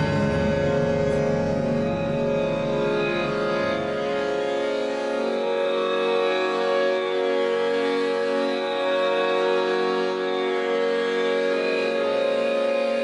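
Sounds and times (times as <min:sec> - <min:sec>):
string-like drone music: 0:00.0 - 0:13.0.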